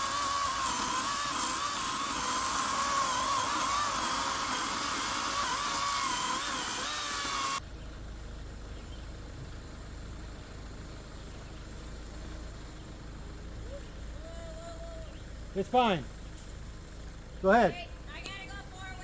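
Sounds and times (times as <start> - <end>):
small engine running hard: 0.0 - 17.6.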